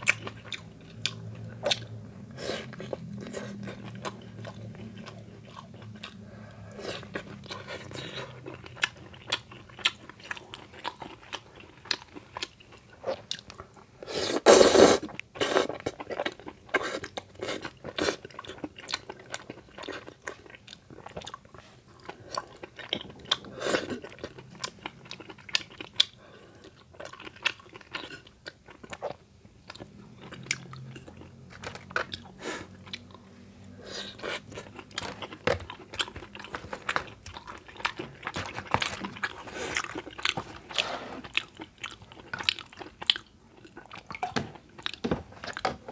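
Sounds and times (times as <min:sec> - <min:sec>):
wet chewing and crunching: 0:00.0 - 0:14.1, 0:15.0 - 0:33.3, 0:33.9 - 0:45.9.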